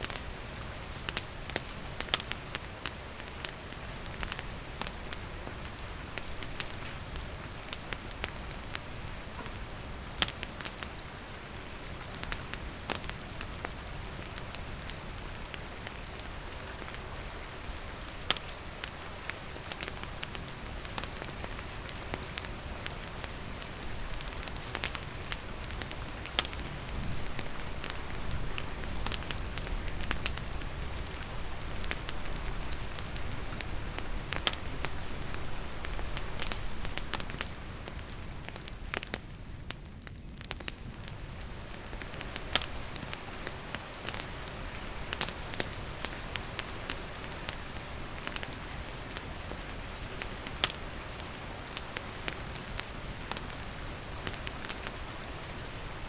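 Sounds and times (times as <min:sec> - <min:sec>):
campfire crackling and popping: 0:00.0 - 0:56.0
steady rainfall: 0:00.0 - 0:56.0.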